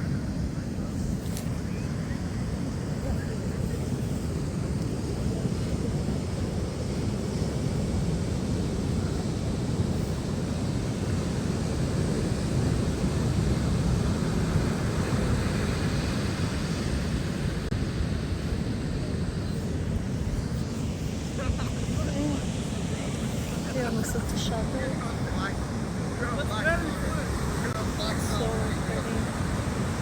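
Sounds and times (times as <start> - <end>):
surf: 0.0 - 30.0
wind: 0.0 - 30.0.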